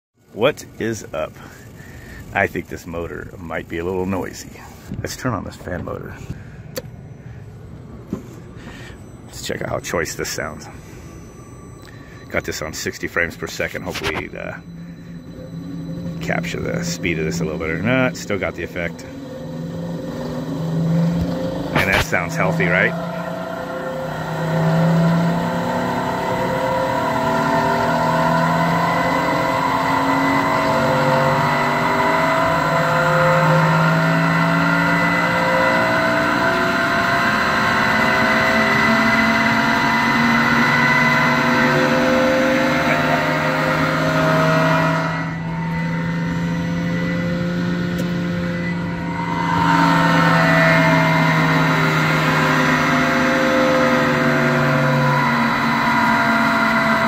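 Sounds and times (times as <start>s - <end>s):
fan motor whirring with warbling tones: 0.2s - 57.0s.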